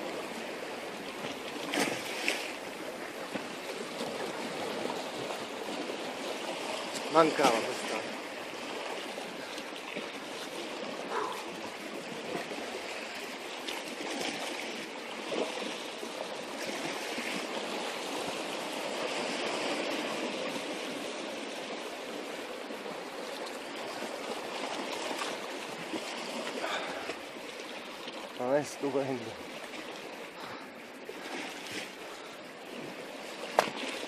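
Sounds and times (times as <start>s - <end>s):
sea water washing among rocks: 0.0s - 34.0s.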